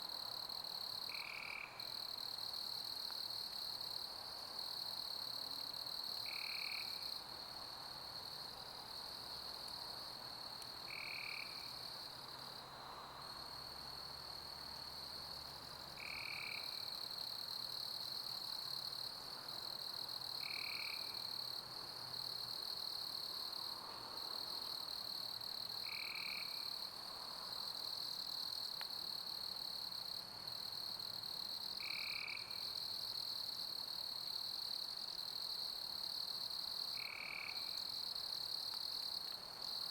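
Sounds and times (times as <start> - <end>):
soft even hiss: 0.0 - 35.7
crickets chirping: 0.0 - 39.9.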